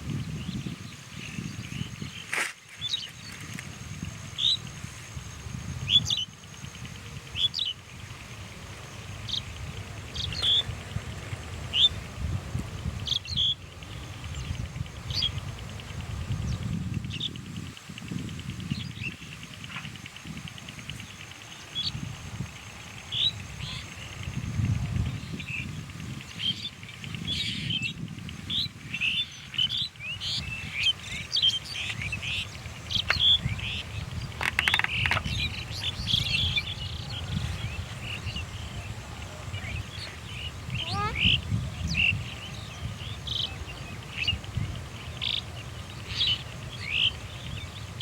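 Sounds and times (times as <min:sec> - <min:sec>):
birds calling: 0:00.0 - 0:48.0.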